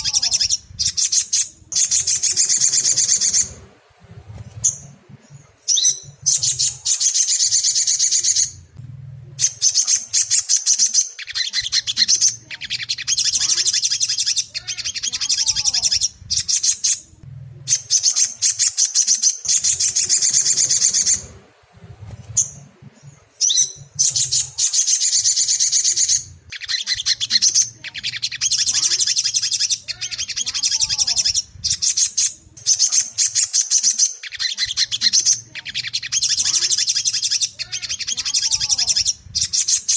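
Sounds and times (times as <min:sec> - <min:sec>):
bird chattering trills: 0:00.0 - 0:39.9.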